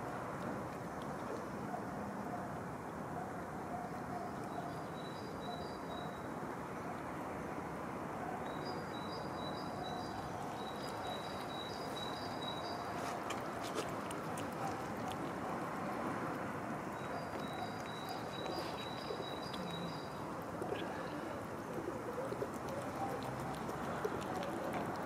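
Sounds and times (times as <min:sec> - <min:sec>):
street background hum: 0:00.0 - 0:25.0.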